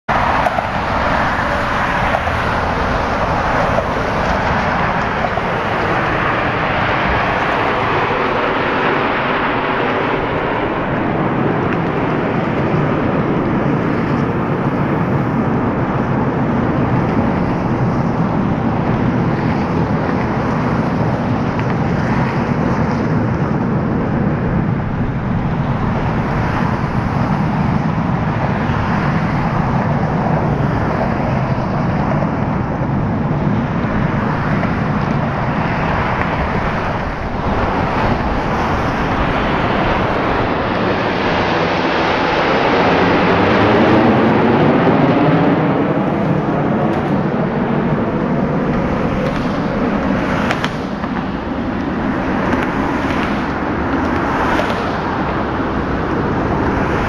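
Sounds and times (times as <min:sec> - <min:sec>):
jet roar passing overhead: 0:00.0 - 0:57.0.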